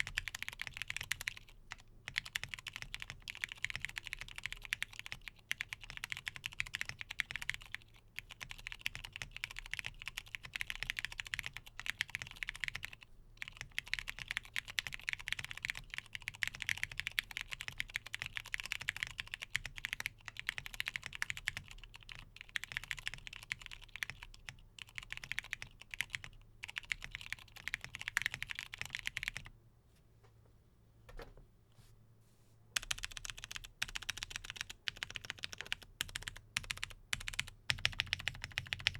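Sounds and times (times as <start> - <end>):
typing on mechanical keyboard: 0.0 - 29.5, 32.8 - 38.9.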